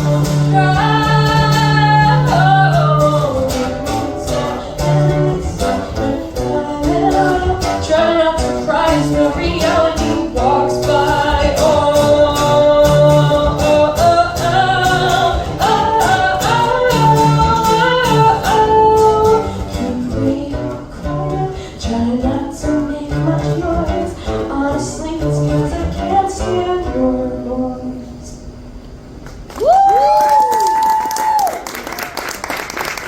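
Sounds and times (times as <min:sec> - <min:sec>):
strummed guitar: 0:00.0 - 0:27.9
person singing: 0:00.0 - 0:28.2.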